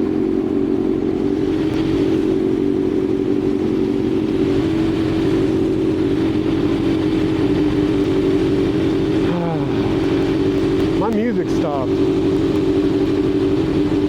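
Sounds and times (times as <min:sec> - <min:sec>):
motorcycle engine running steadily: 0:00.0 - 0:14.0.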